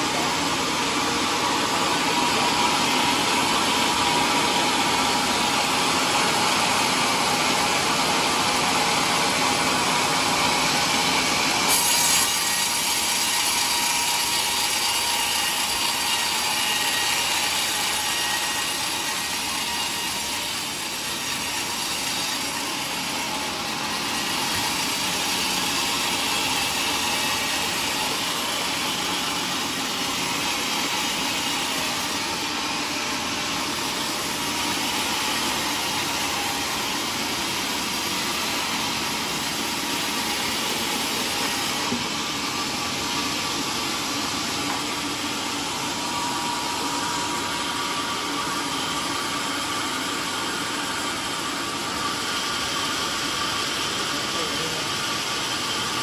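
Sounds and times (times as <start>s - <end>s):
band saw cutting through wood: 0.0s - 56.0s
sawmill machine running: 0.0s - 56.0s.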